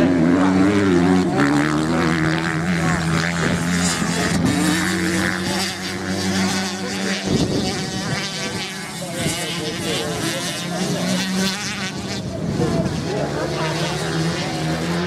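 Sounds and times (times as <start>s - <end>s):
motocross bike engines racing: 0.0s - 15.0s.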